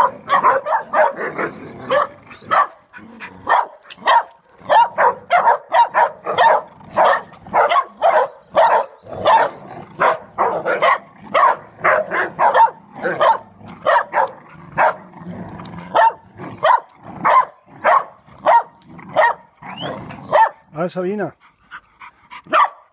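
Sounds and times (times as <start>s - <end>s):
dog barking: 0.0s - 2.8s, 3.4s - 15.0s, 15.9s - 19.5s, 20.2s - 20.7s, 22.5s - 22.9s.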